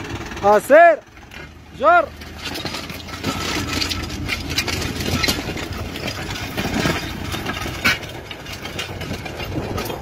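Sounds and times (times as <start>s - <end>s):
tractor diesel engine running: 0.0s - 10.0s
plough discs scraping soil: 1.3s - 10.0s.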